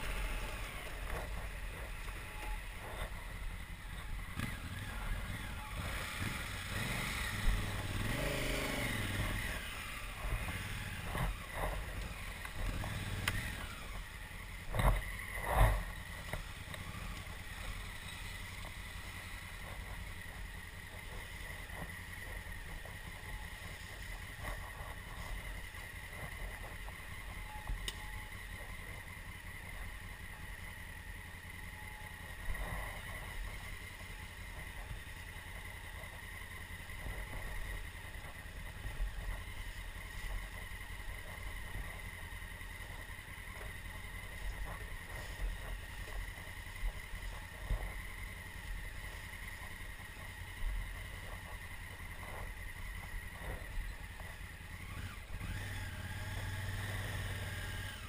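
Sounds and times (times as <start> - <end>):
muffled motorcycle engine: 0.0 - 58.0.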